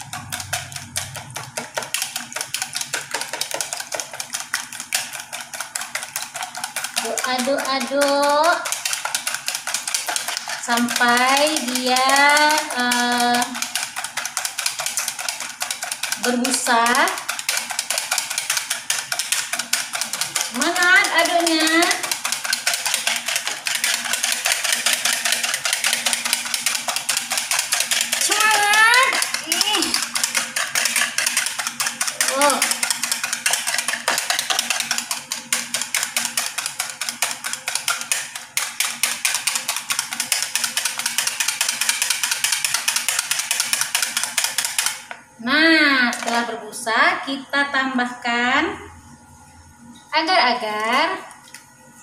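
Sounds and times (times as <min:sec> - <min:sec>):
whisk clicking against bowl: 0:00.0 - 0:45.2.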